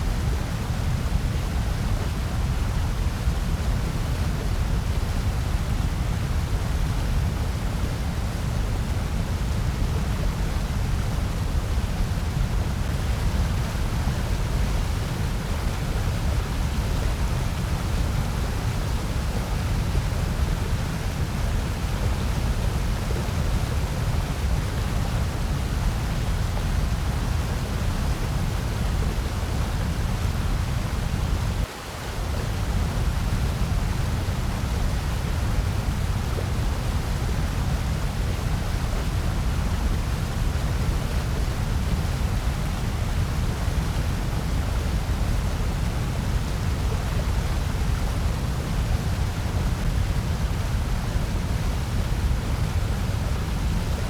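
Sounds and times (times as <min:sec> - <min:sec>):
low white noise hiss: 0:00.0 - 0:54.0.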